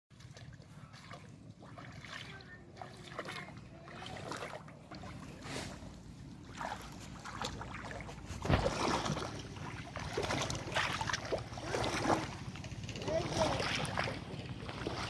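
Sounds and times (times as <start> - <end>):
shallow water sloshing: 0.1 - 15.0.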